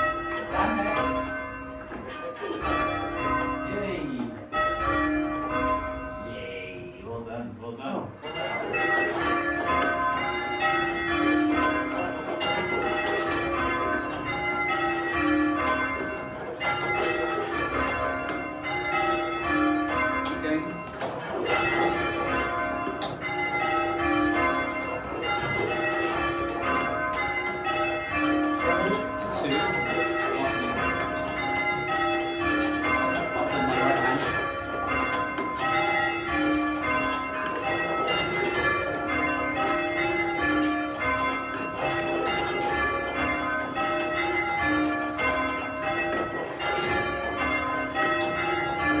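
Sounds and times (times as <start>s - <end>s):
church bells ringing: 0.0s - 49.0s.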